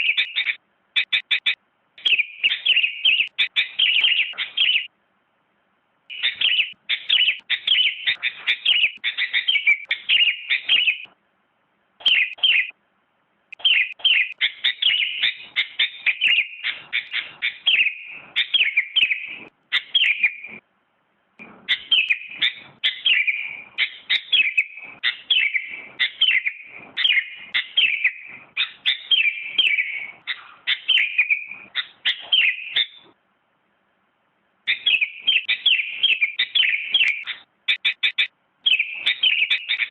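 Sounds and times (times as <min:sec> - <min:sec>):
bird singing quick chirps: 0:00.0 - 0:04.9, 0:06.1 - 0:11.2, 0:12.0 - 0:12.8, 0:13.5 - 0:20.6, 0:21.4 - 0:33.1, 0:34.7 - 0:39.9.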